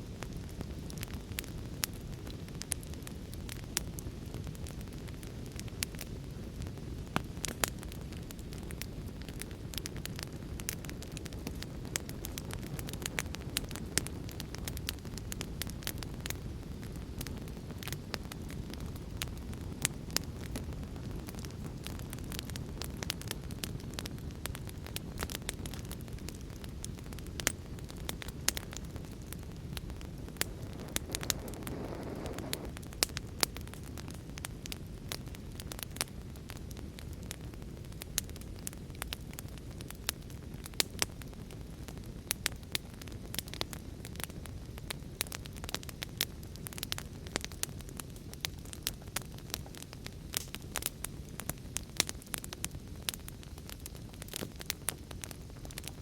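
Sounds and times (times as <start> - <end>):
fire crackling: 0.0 - 56.0
fire hissing: 0.2 - 56.0.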